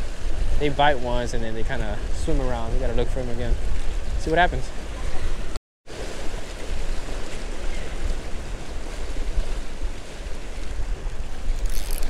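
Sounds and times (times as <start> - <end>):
waves splashing against rocks: 0.0 - 12.0
wind buffeting microphone: 0.0 - 12.0.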